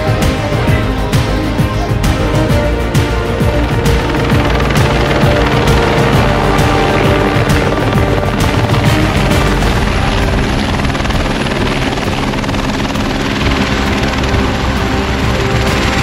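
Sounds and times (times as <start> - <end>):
helicopter turbine and rotor: 0.0 - 16.0.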